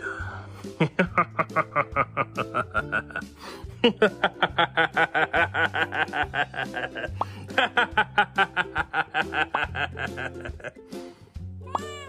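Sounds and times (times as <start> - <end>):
background music: 0.0 - 12.0
rapid laughter: 0.8 - 10.8.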